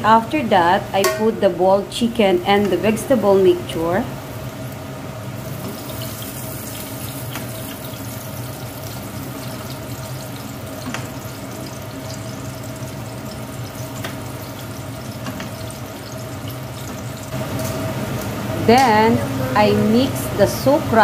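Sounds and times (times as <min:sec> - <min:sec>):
kitchen hiss and hum: 0:00.0 - 0:21.0.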